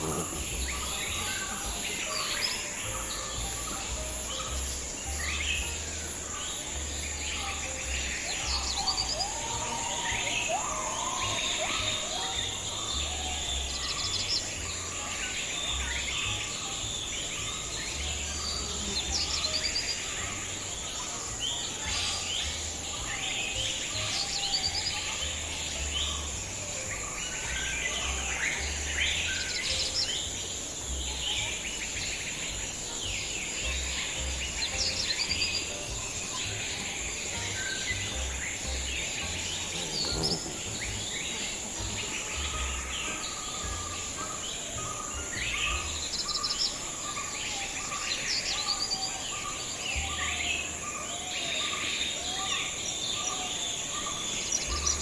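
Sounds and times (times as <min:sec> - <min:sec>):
birds chirping and calling: 0:00.0 - 0:55.0
high-pitched insect drone: 0:00.0 - 0:55.0.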